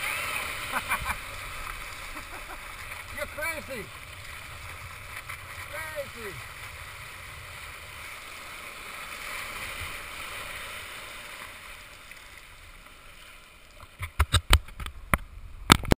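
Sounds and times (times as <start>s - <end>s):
whitewater rushing around kayak: 0.0s - 15.9s.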